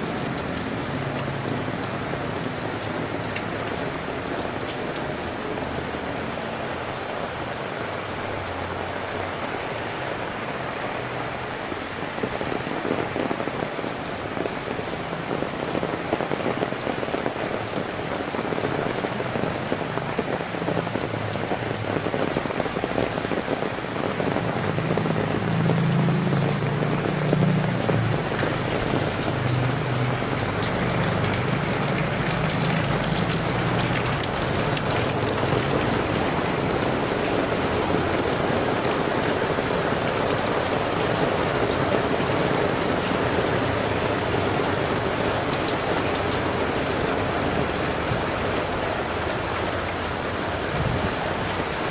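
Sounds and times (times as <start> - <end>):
heavy rain: 0.0 - 51.9.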